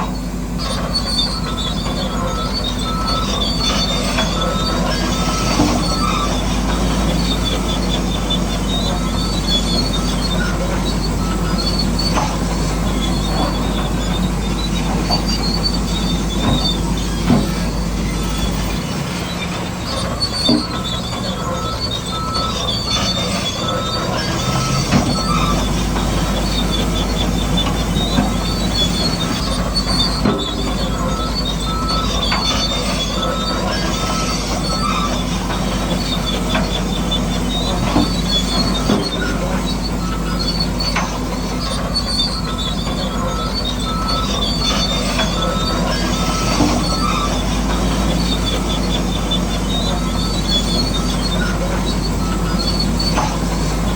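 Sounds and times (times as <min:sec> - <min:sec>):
electric motors whining: 0:00.0 - 0:53.9.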